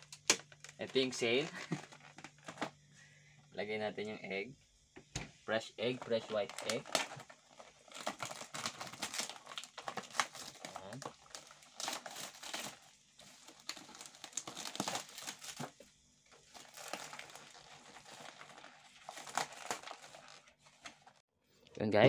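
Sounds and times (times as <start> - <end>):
plastic wrap crinkling: 0.0 - 2.8, 5.8 - 21.2.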